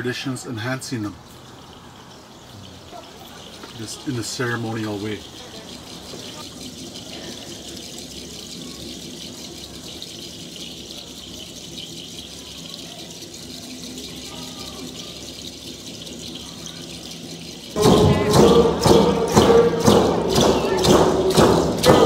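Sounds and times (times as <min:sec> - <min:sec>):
hushed hall hiss: 0:00.0 - 0:22.0
faint voices: 0:02.0 - 0:22.0.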